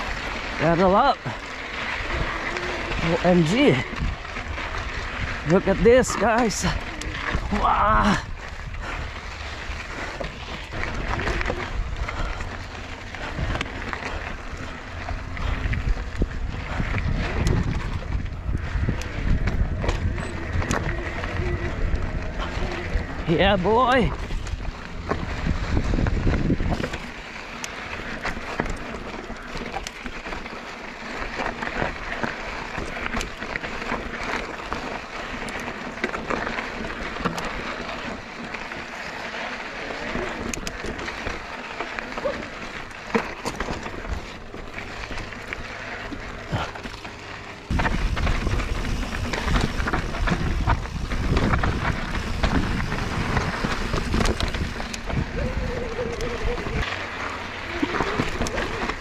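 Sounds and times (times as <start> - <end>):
bike rattling: 0.0 - 59.0
tyres crunching on dirt: 0.0 - 59.0.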